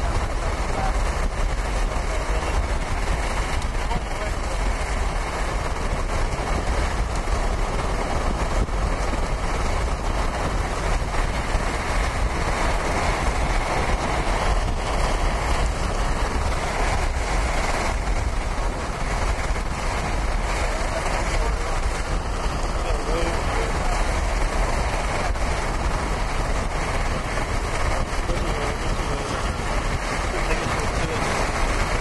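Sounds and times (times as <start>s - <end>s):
vehicle engine running: 0.0s - 32.0s
wind buffeting microphone: 0.0s - 32.0s.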